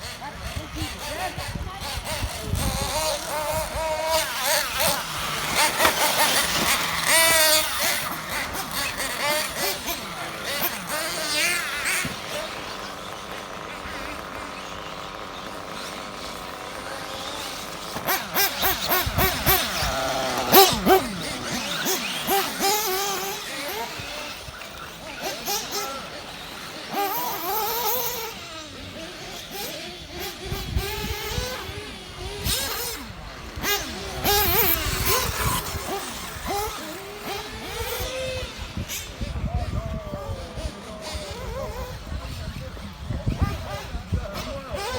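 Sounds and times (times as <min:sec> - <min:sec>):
model truck engine revving: 0:00.0 - 0:44.9.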